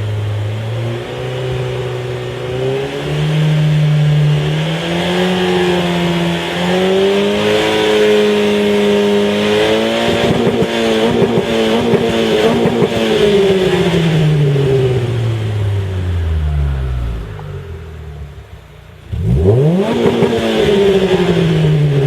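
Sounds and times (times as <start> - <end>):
car engine revving high: 0.0 - 22.0.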